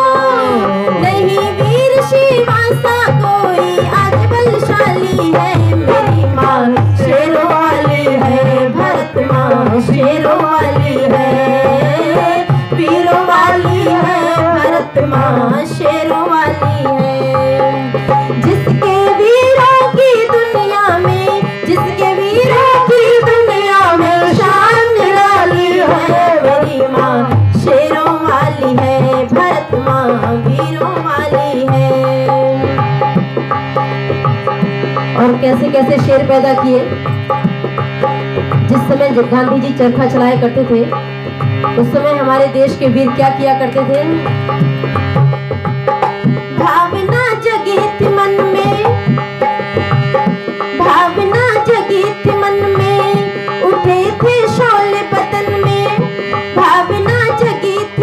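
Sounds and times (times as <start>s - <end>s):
woman singing: 0.0s - 32.8s, 35.2s - 37.0s, 38.7s - 41.0s, 41.7s - 44.4s, 46.6s - 49.2s, 50.8s - 58.0s
tabla drumming: 0.0s - 58.0s.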